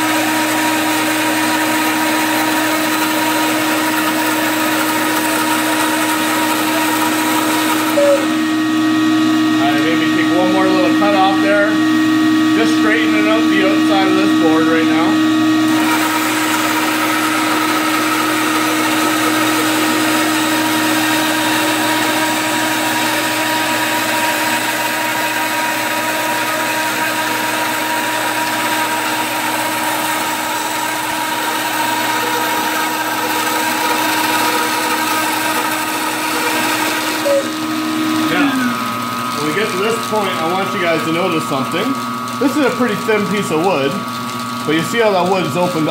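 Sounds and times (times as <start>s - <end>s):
bandsaw cutting wood: 0.0s - 45.9s
motor hum: 0.0s - 45.9s.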